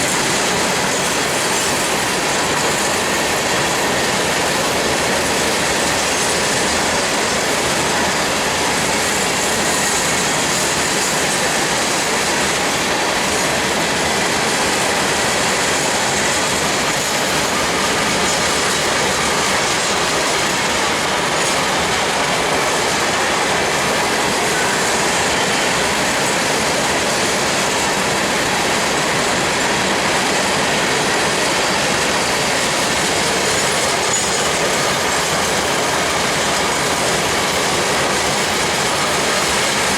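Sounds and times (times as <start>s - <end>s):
steel train wheels on rail: 0.0s - 39.9s.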